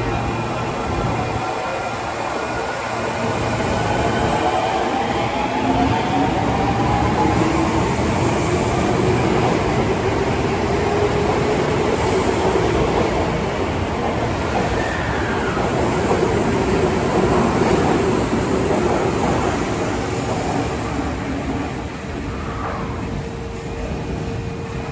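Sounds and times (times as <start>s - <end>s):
train wheels on rails: 0.0s - 24.9s.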